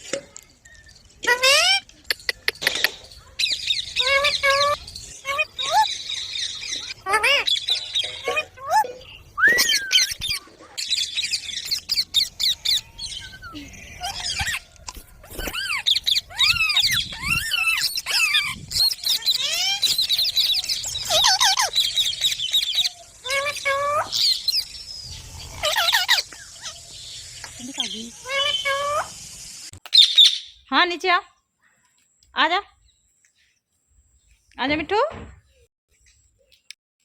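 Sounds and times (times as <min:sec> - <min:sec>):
parrots chirping and squealing: 0:00.4 - 0:30.7.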